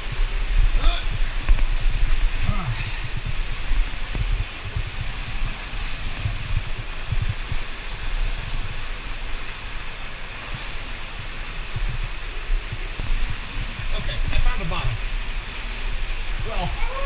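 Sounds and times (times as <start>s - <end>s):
low thumps and rumbles: 0.0s - 17.0s
stream rushing and splashing: 0.0s - 17.0s.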